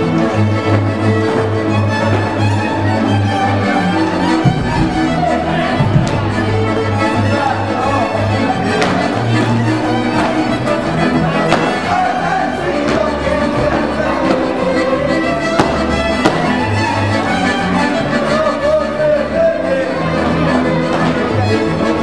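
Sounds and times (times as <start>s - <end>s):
accordion: 0.0s - 22.0s
double bass pulsing: 0.0s - 22.0s
fiddles bowing melody: 0.0s - 22.0s
string chords: 0.0s - 22.0s.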